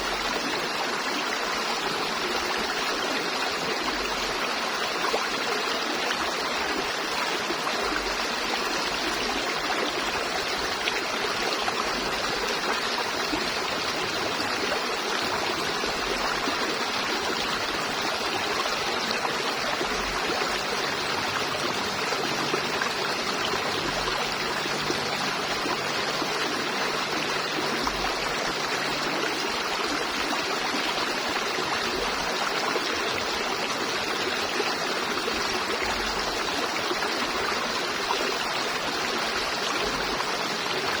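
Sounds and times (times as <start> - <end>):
river water flowing over rocks: 0.0 - 41.0.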